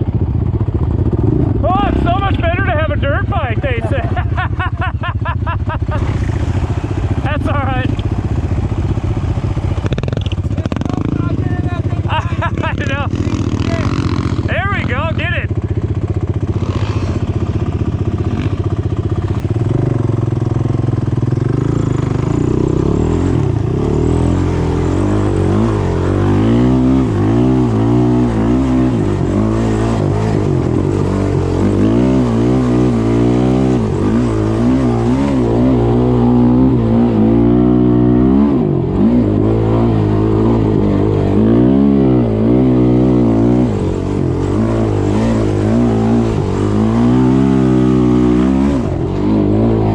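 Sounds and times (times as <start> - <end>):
single-cylinder engine revving: 0.0 - 49.9.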